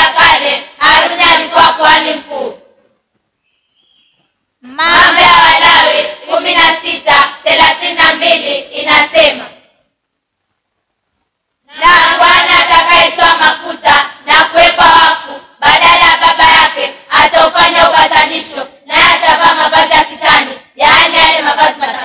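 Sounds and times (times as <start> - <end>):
children singing: 0.0 - 2.6, 4.6 - 9.5, 11.7 - 22.0.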